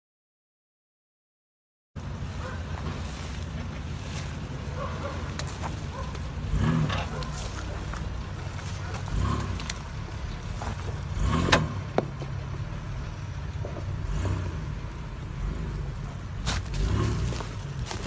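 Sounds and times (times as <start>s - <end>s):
engine running at low revs: 2.0s - 18.0s.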